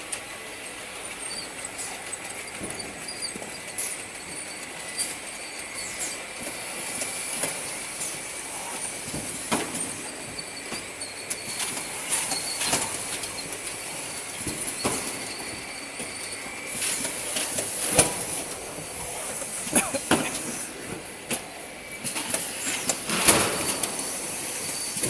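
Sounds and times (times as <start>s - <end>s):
machinery clicks and clanks: 0.0s - 25.0s
mechanical hiss: 4.9s - 25.0s.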